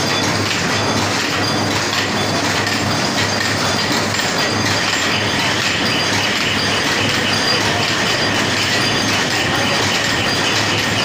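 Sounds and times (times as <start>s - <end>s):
machine clattering rhythmically: 0.0s - 11.0s.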